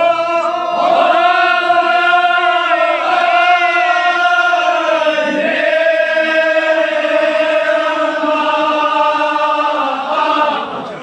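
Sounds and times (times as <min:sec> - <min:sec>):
men chanting a long note: 0:00.0 - 0:11.0.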